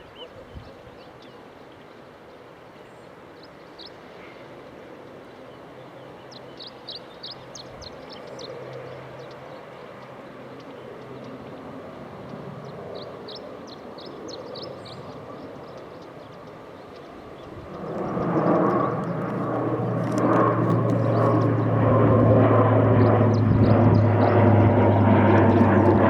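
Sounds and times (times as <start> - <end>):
small birds chirping: 0.0 - 21.8
distant aircraft engines humming: 0.0 - 26.0.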